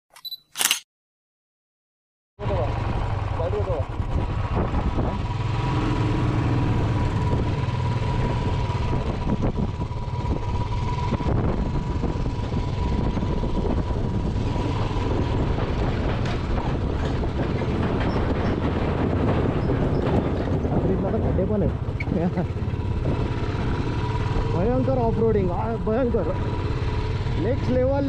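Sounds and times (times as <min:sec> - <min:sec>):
motorcycle engine running: 0:02.4 - 0:28.0.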